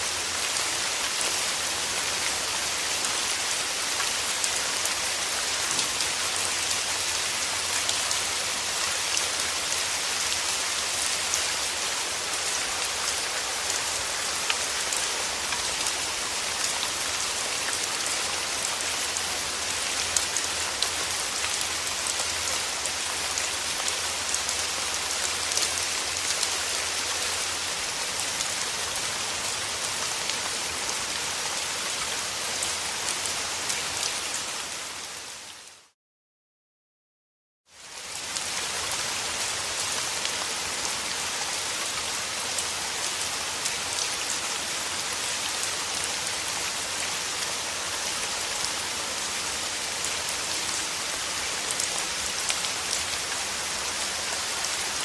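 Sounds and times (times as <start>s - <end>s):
steady rain hiss: 0.0s - 36.0s, 37.7s - 55.0s.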